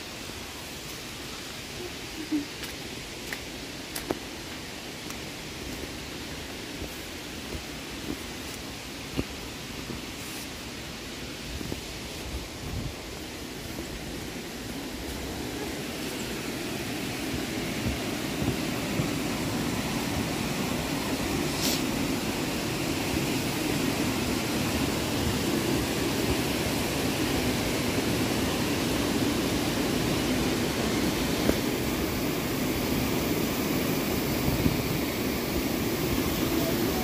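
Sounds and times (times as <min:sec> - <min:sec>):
water rushing through gorge: 0:00.0 - 0:37.0.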